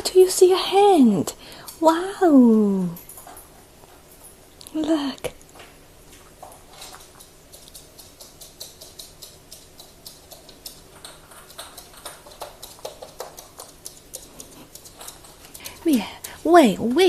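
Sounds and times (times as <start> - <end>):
parrots nibbling leaves: 3.0 - 17.0.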